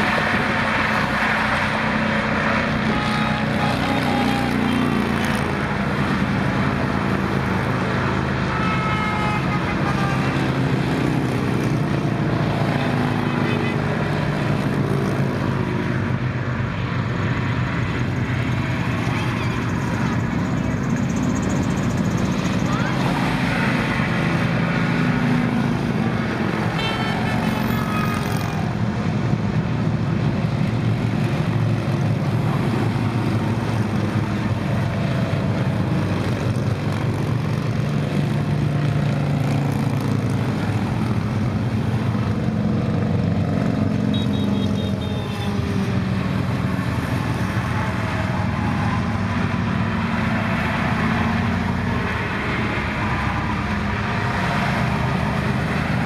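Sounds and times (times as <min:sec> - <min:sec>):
motorcycles and cars passing: 0:00.0 - 0:56.0.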